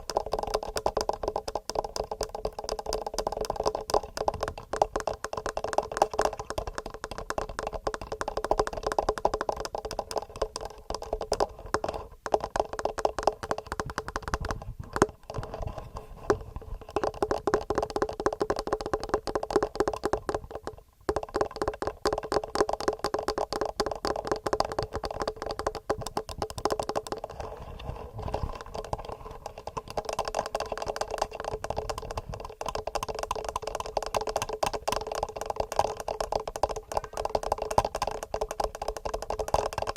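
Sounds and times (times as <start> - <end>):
fingernails tapping on microphones: 0.0 - 39.9.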